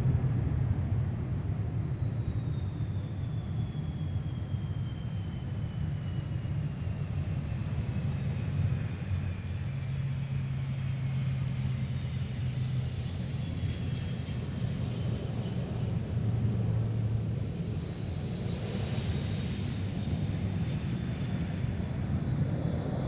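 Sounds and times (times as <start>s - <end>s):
airliner engine rumble: 0.0s - 23.0s
high jet engine whine: 0.0s - 23.0s.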